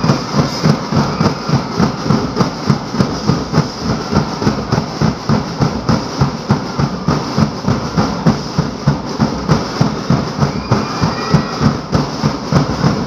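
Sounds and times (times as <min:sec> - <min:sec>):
drums beating fast rhythm: 0:00.0 - 0:13.0.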